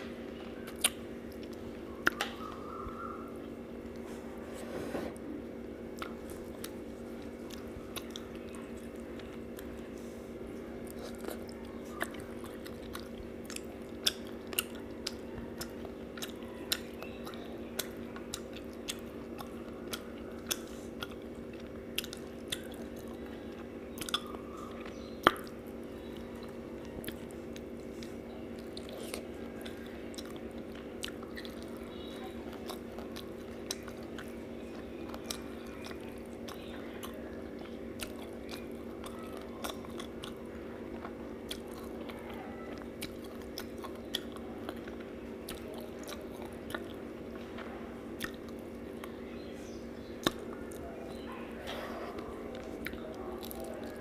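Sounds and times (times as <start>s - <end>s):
chewing with mouth clicks: 0.0s - 4.4s, 5.6s - 54.0s
steady low hum: 0.0s - 54.0s.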